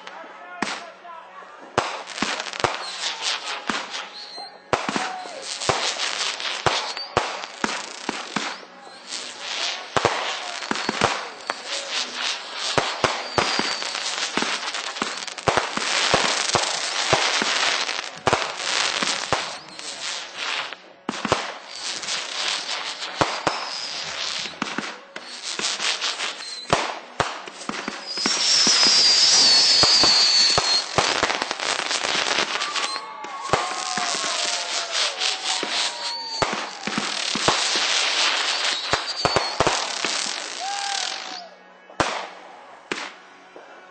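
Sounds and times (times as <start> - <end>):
fireworks cracks and pops: 1.7 - 43.2
high firework whistle: 2.2 - 20.8, 21.5 - 41.5.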